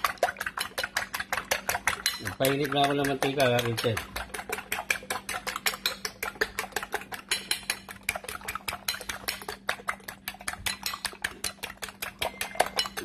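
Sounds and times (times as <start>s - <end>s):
fork clicking against bowl: 0.3s - 13.0s.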